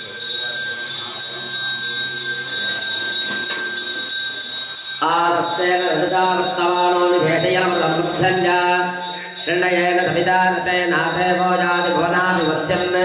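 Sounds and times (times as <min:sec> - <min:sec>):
hand bell ringing: 0:00.0 - 0:13.0.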